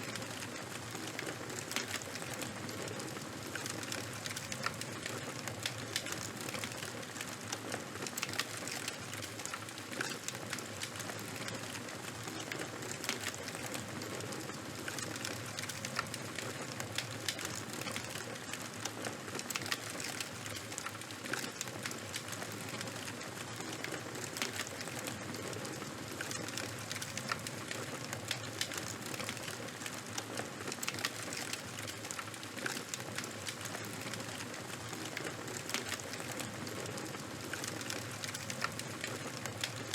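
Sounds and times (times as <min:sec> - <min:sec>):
charcoal and wood fire crackling: 0:00.0 - 0:39.9.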